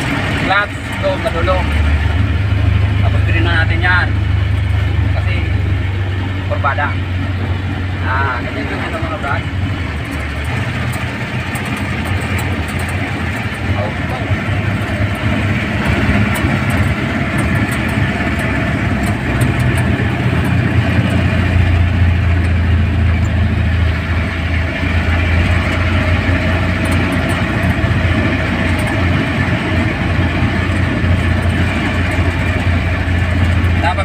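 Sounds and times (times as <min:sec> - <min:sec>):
diesel engine drone: 0:00.0 - 0:34.0
road and wind noise: 0:00.0 - 0:34.0.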